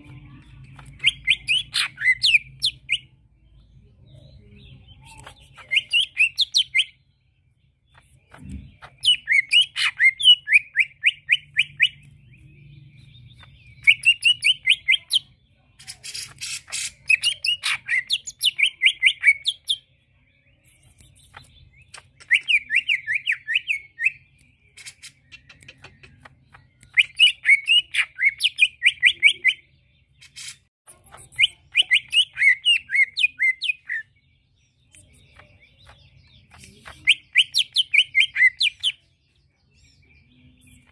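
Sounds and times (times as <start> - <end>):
bird singing high chattering notes: 0.0 - 40.9.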